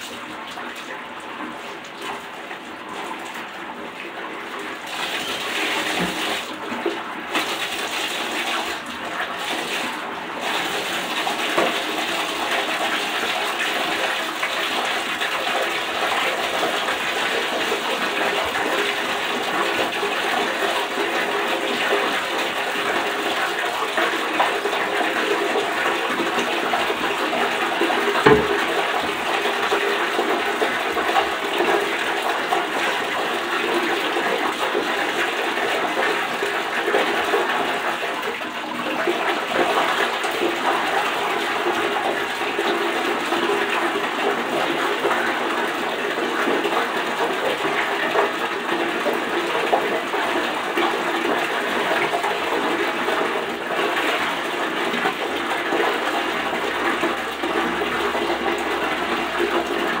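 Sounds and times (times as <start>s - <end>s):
water running from faucet into tub: 0.0s - 60.0s.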